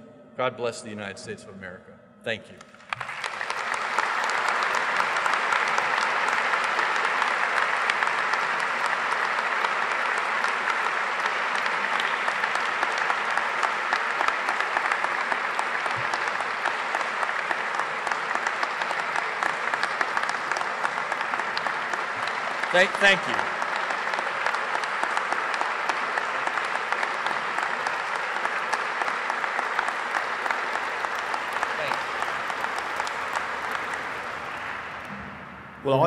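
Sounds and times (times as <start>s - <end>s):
audience applauding: 2.6s - 36.0s.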